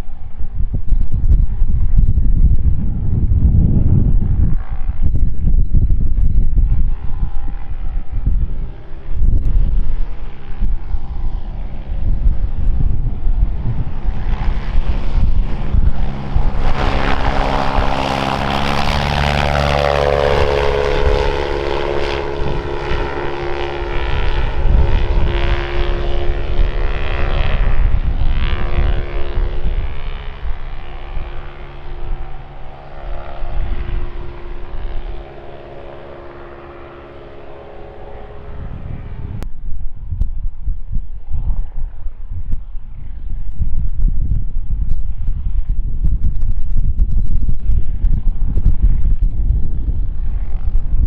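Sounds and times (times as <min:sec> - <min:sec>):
propeller plane flying past: 0:00.0 - 0:51.0
wind buffeting microphone: 0:00.0 - 0:51.0.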